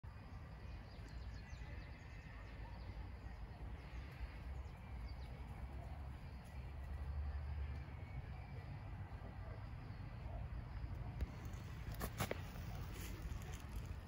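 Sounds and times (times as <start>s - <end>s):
birds chirping: 0.4s - 14.0s.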